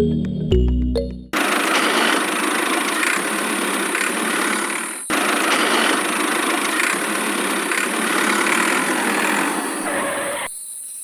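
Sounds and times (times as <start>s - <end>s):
small engine rattling: 1.4s - 10.4s.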